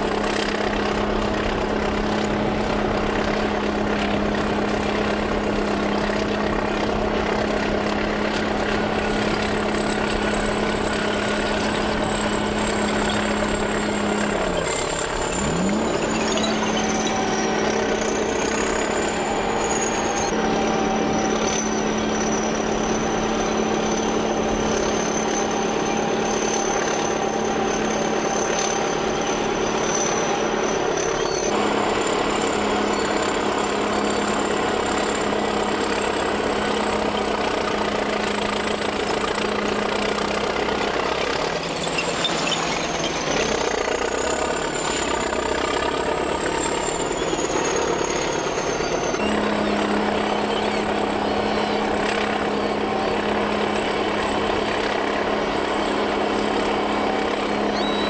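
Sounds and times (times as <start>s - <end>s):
heavy machine engine running: 0.0s - 58.0s
thin high whine: 1.4s - 58.0s.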